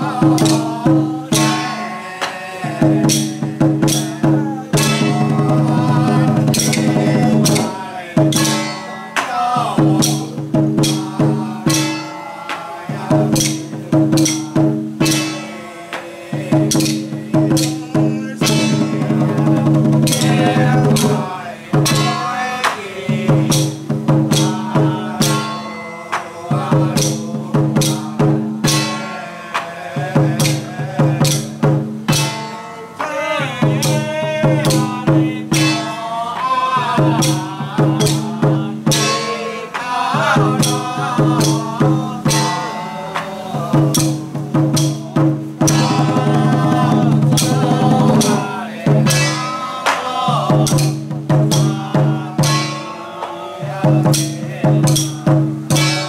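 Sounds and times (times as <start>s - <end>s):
rapid percussion strikes: 0.0s - 56.0s.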